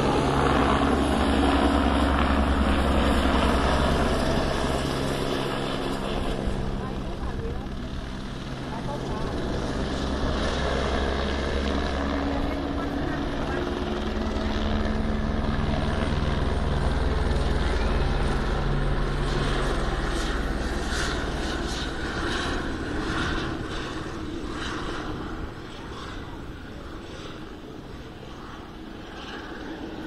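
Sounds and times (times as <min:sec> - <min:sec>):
helicopter rotor drone: 0:00.0 - 0:30.0.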